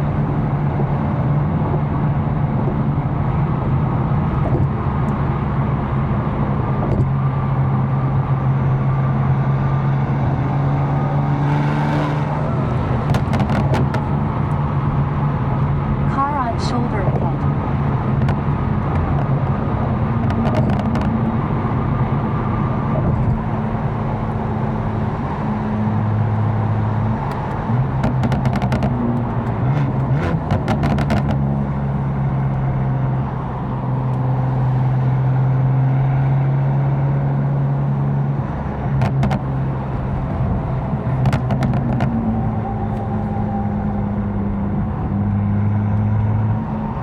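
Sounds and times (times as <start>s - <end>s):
car engine droning: 0.0s - 47.0s
road noise: 0.0s - 47.0s.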